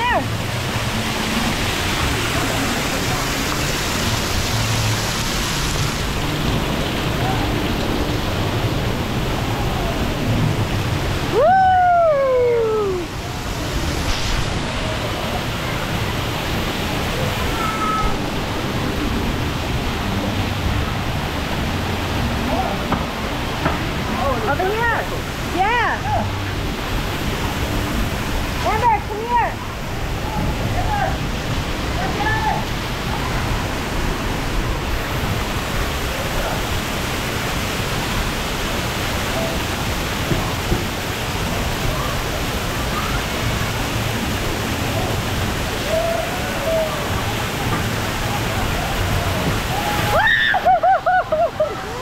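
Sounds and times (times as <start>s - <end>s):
water rushing and splashing: 0.0s - 52.0s.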